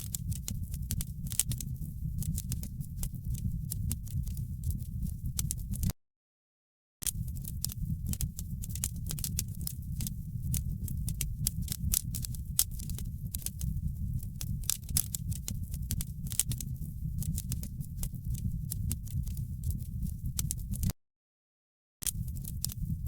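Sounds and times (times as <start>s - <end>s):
fire crackling and popping: 0.0s - 5.9s, 7.0s - 20.9s, 22.1s - 23.0s
low rumble of burning: 0.0s - 5.9s, 7.0s - 20.9s, 22.1s - 23.0s.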